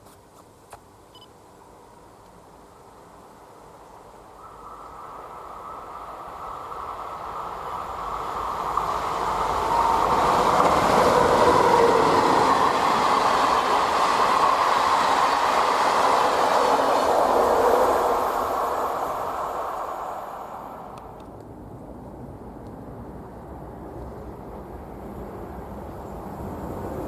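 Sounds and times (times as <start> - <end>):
train wheels rumbling on rail: 4.0 - 27.0.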